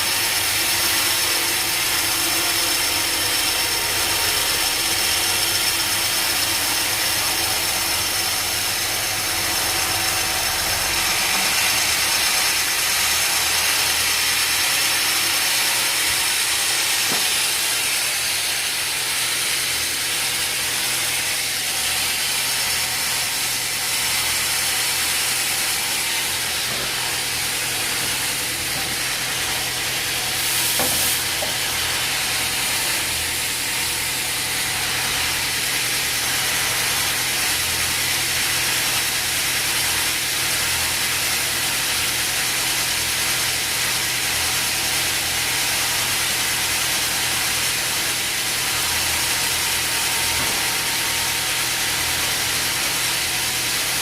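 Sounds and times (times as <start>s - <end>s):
loud machinery hiss: 0.0s - 54.0s
sawmill machinery hum: 0.0s - 54.0s.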